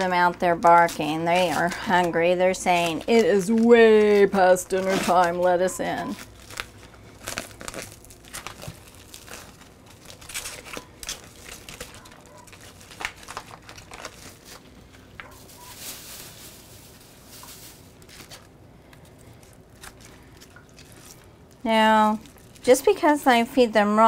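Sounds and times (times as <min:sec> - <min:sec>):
sharp plastic crackles: 0:00.0 - 0:23.3
plastic packaging crinkling: 0:00.0 - 0:23.8.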